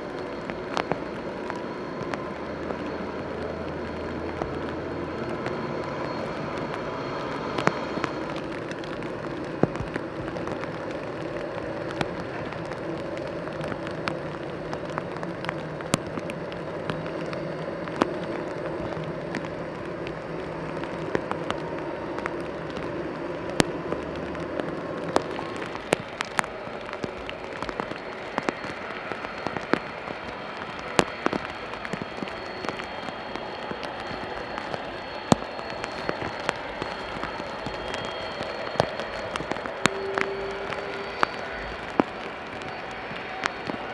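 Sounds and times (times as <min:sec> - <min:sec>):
distant jet engines: 0:00.0 - 0:43.9
raindrops tapping: 0:00.0 - 0:43.9
steady rain hiss: 0:00.0 - 0:43.9.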